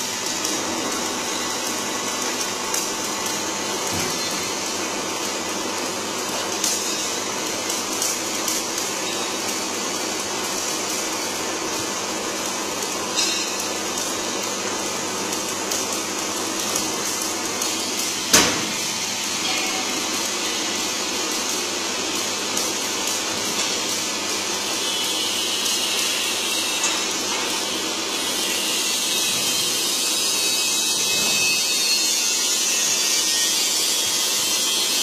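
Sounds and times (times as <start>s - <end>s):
bending machine running: 0.0s - 35.0s.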